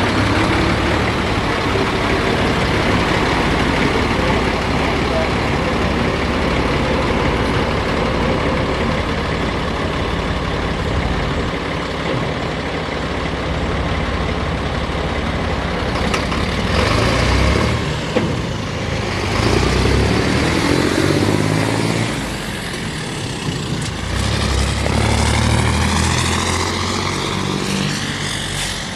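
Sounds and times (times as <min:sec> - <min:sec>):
diesel truck engine: 0:00.0 - 0:28.9.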